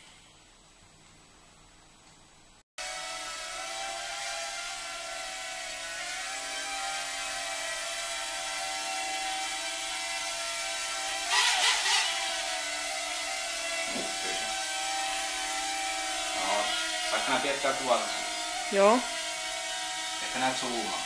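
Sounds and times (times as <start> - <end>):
quadcopter motors whining: 2.8 - 21.0.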